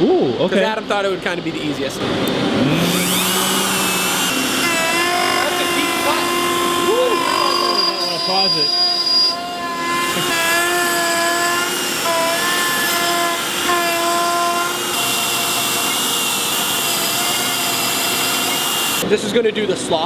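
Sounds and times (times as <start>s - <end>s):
router spindle whining while cutting wood: 2.5s - 19.0s.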